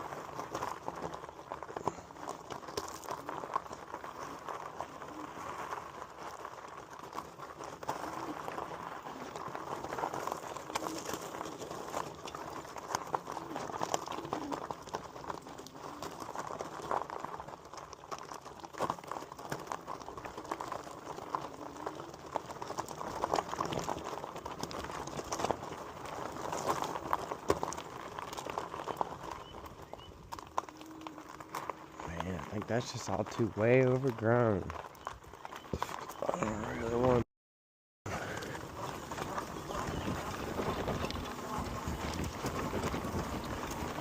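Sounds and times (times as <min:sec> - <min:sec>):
bike rattling: 0:00.0 - 0:37.2, 0:38.1 - 0:44.0
small clicks and crackles: 0:00.0 - 0:37.2, 0:38.1 - 0:44.0
tyres crunching on dirt trail: 0:00.0 - 0:37.2, 0:38.0 - 0:44.0.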